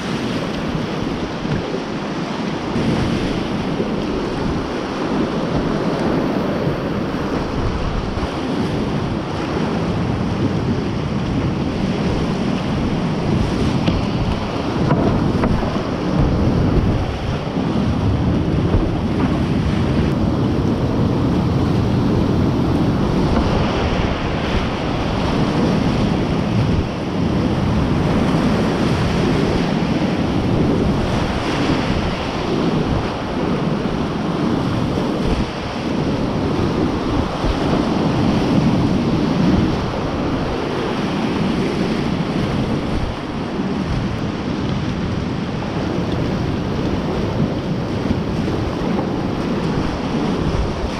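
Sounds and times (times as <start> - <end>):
whitewater rapids rushing: 0.0 - 50.9
wind buffeting microphone: 0.0 - 50.9.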